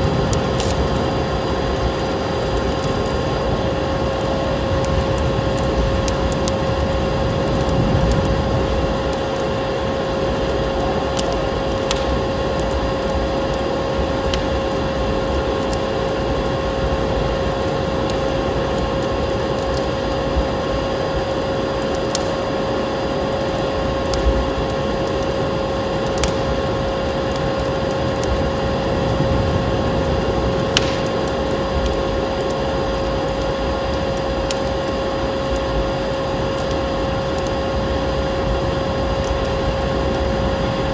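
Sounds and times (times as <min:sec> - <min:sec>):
fireplace crackling: 0:00.0 - 0:40.9
steady hum: 0:00.0 - 0:40.9
steady rushing noise: 0:00.0 - 0:40.9.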